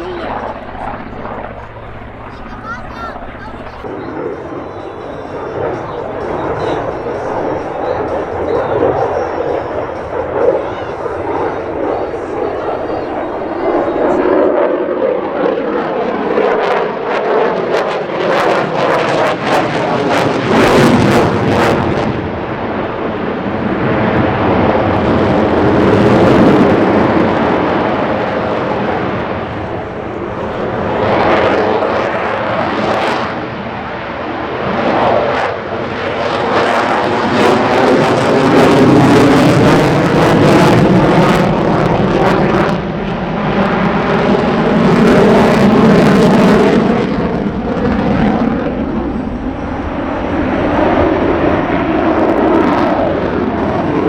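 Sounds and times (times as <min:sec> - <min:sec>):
jet aircraft roaring past: 0:00.0 - 0:54.0.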